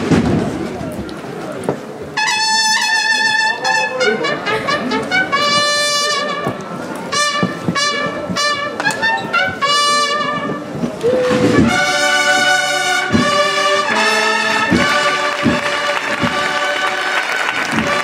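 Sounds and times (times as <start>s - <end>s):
brass band playing a march: 0.0s - 0.8s, 2.1s - 18.0s.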